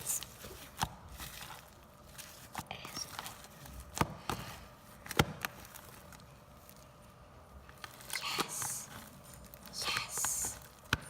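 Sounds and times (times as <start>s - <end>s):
slime crunchy rustle: 0.0s - 11.0s.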